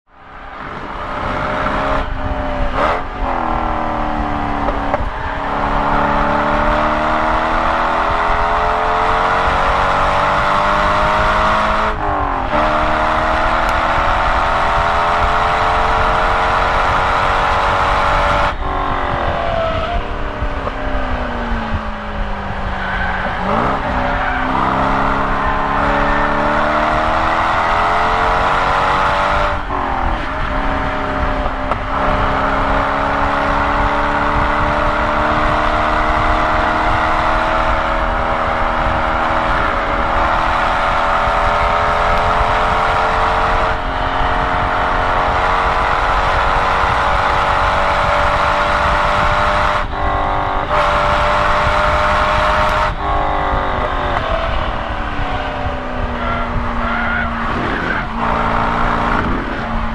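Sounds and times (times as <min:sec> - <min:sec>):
car engine accelerating hard: 0:00.2 - 0:59.9.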